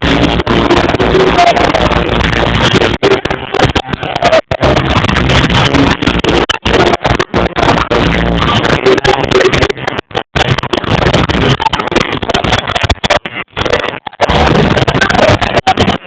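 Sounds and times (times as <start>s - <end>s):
distorted live band music: 0.0s - 16.0s.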